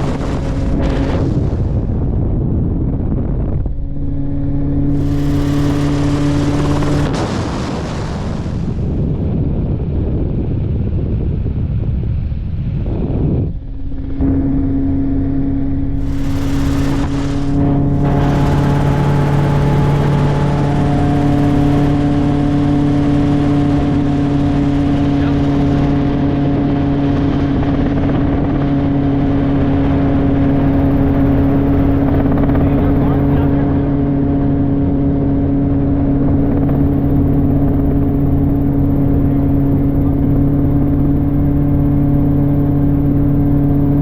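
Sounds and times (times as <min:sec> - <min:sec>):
helicopter engine and rotor drone: 0:00.0 - 0:44.0
noisy rumble: 0:00.0 - 0:44.0.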